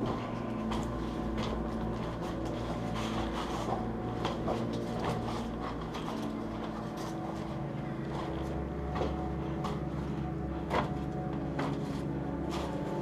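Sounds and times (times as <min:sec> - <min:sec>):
footsteps over rubble and planks: 0:00.0 - 0:13.0
low drone: 0:00.0 - 0:13.0.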